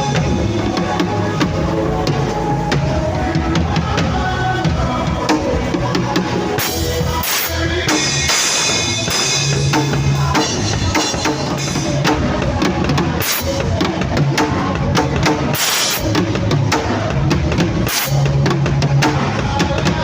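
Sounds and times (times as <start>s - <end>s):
drum kit playing: 0.0s - 20.0s
sustained bass notes: 0.0s - 20.0s.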